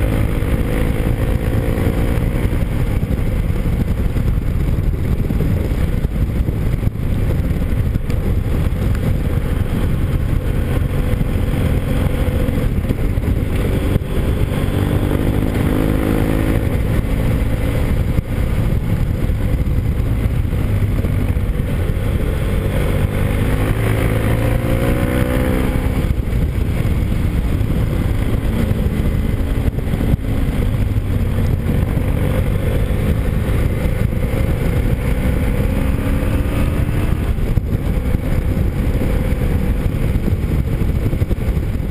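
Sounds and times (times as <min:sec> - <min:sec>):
heavy wind on microphone: 0:00.0 - 0:41.9
motorcycle engine running: 0:00.0 - 0:41.9
road rumble: 0:00.0 - 0:41.9.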